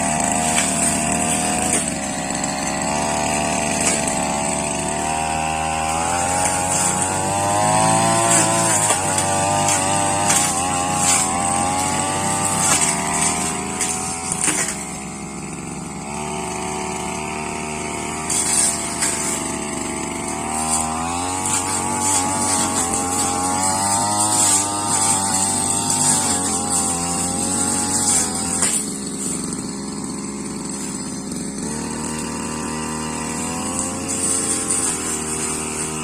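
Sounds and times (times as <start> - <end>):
brush cutter engine revving: 0.0 - 36.0.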